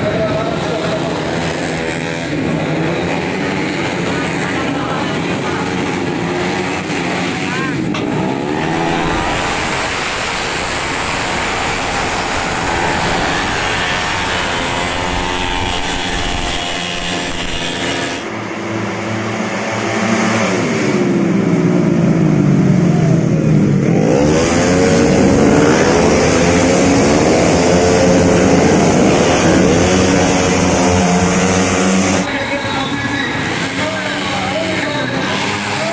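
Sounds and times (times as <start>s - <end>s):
racing scooter engines passing: 0.0s - 35.9s.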